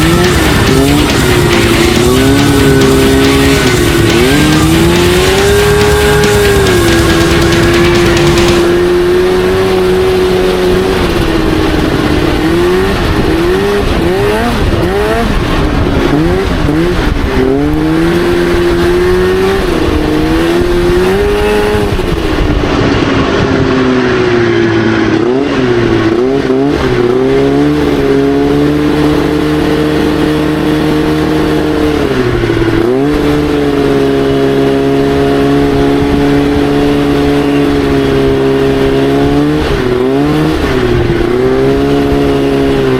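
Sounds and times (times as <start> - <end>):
buggy engine revving: 0.0 - 42.9.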